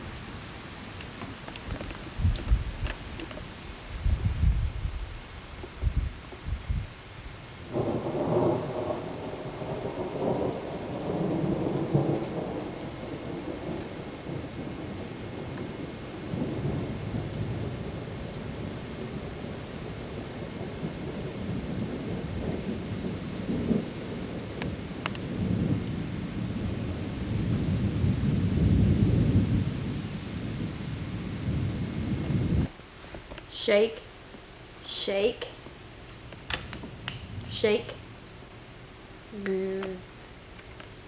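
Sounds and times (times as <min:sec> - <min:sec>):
thunder rumbling: 0:00.0 - 0:32.8, 0:34.8 - 0:41.0
steady falling rain: 0:00.0 - 0:41.0.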